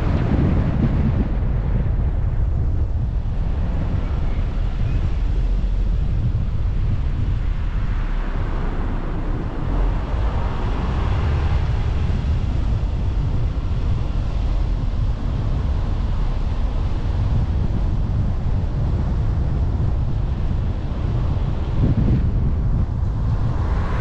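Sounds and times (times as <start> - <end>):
road and vehicle noise: 0.0 - 24.0
wind rumbling on microphone: 0.0 - 24.0.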